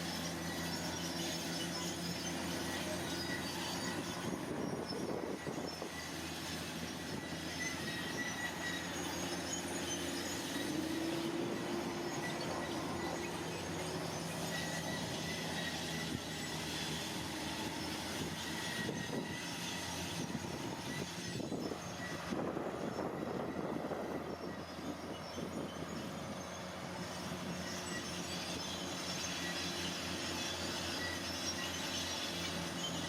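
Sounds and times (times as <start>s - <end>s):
heavy diesel machinery running: 0.0s - 33.0s
machinery grinding and rattling: 0.0s - 33.0s.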